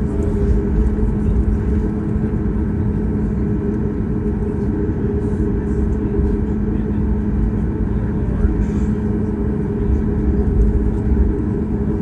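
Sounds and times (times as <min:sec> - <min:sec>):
airliner cabin rumble: 0:00.0 - 0:12.0
low steady hum: 0:00.0 - 0:12.0.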